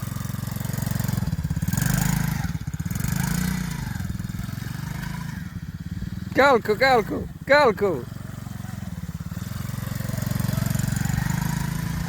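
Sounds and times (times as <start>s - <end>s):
small engine revving: 0.0s - 12.0s.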